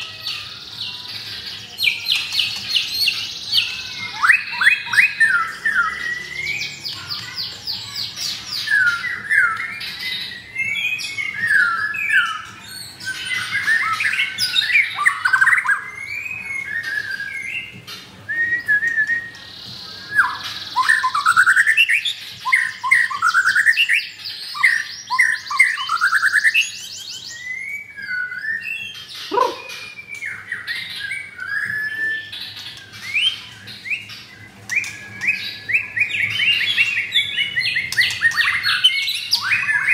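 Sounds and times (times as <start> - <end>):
songbirds singing trills and whistles: 0.0 - 39.9.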